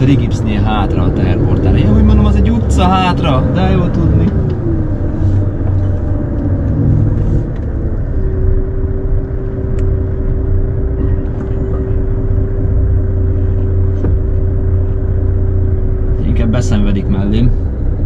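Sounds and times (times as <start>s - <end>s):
lorry engine drone: 0.0s - 18.0s
steady whine: 0.0s - 18.0s.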